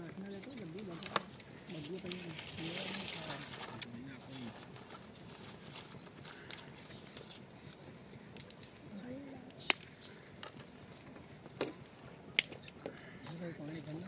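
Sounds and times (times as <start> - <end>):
dry twigs cracking in fire: 0.0 - 14.0
faint outdoor background: 0.0 - 14.0.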